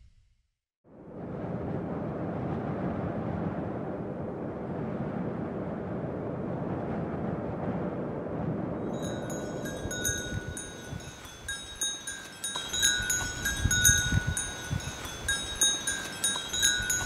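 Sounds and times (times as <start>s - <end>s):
wind rushing: 0.9s - 17.0s.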